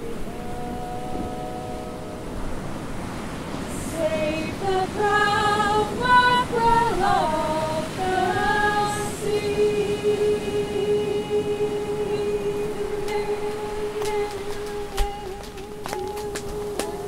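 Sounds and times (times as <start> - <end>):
woman singing folk melody: 0.0 - 2.6, 3.6 - 17.0
sea surf: 0.0 - 17.0.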